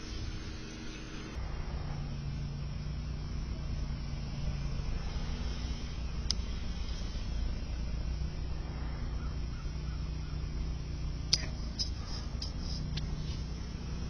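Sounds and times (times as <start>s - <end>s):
distant highway traffic rumble: 0.0s - 14.0s.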